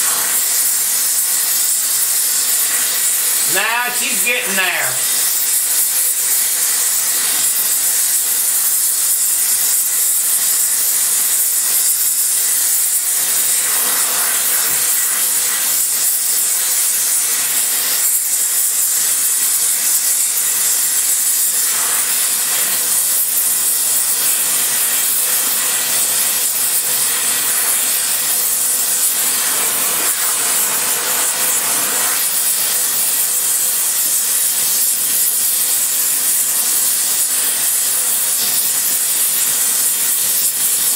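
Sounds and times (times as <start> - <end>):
welding torch flame hissing: 0.0 - 40.9.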